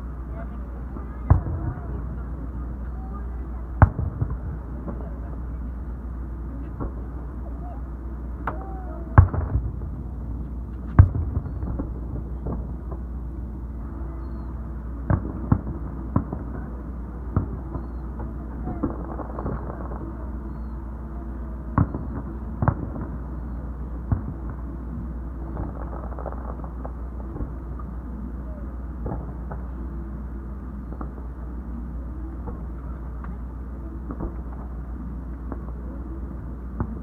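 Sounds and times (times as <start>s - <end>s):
fireworks bursting with bangs: 0.0s - 13.4s, 14.2s - 37.0s
low rumble: 0.0s - 37.0s.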